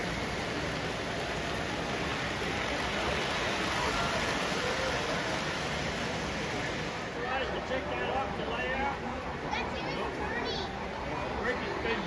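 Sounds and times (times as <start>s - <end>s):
model trains on metal track: 0.0s - 12.0s
faint voices: 0.8s - 12.0s.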